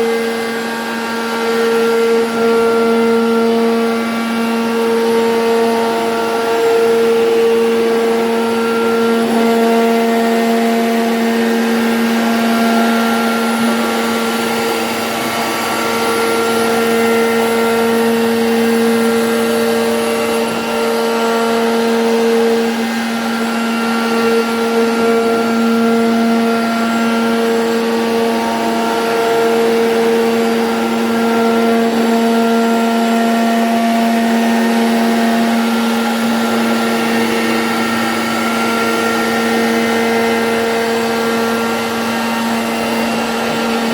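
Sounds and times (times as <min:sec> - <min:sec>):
router spindle motor whine: 0:00.0 - 0:43.9
rushing cutting noise: 0:00.0 - 0:43.9.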